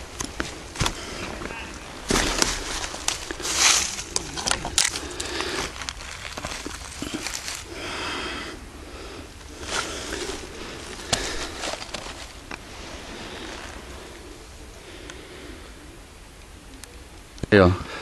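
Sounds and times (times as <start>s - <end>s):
rustling of leaves and moss: 0.0s - 17.8s.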